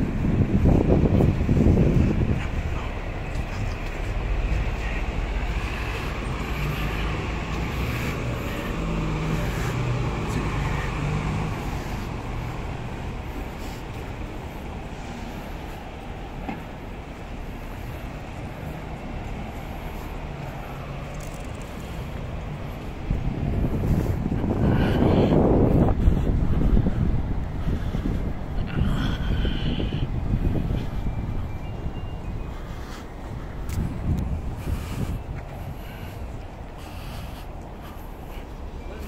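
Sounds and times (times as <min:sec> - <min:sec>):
bus diesel engines rumbling: 0:00.0 - 0:39.0.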